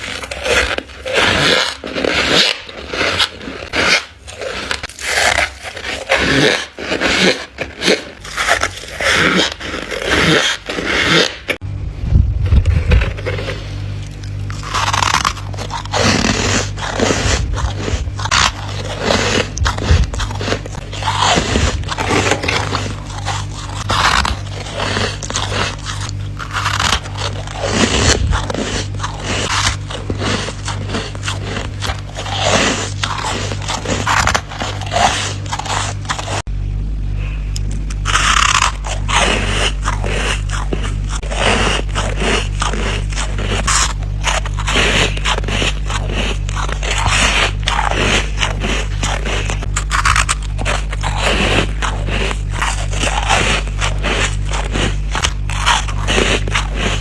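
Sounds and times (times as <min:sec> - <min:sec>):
chewing crunchy ice: 0:00.0 - 0:11.6, 0:12.5 - 0:36.5, 0:37.6 - 0:57.0
steady low hum: 0:00.0 - 0:57.0.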